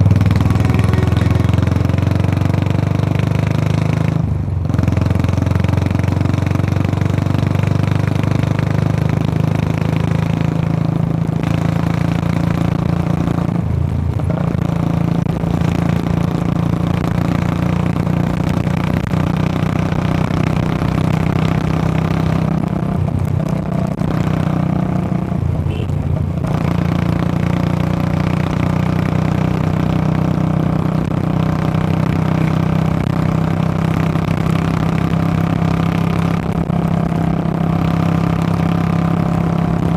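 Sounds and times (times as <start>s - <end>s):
motorcycle engine exhaust note: 0.0s - 39.9s.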